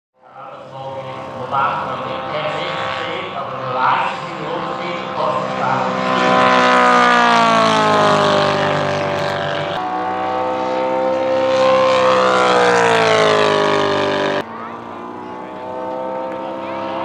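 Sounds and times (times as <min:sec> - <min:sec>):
model plane engine flyby: 0:00.5 - 0:17.0.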